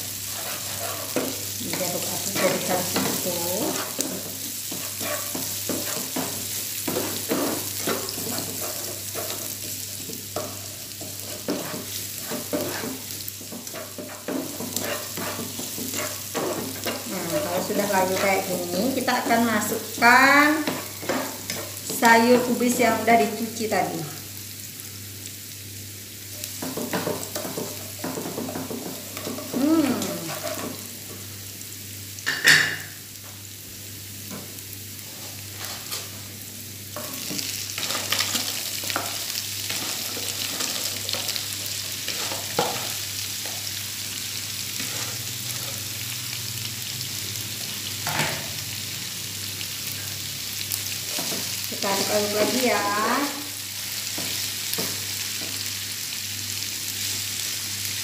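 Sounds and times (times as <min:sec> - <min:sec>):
food sizzling in frying pan: 0:00.0 - 0:58.0.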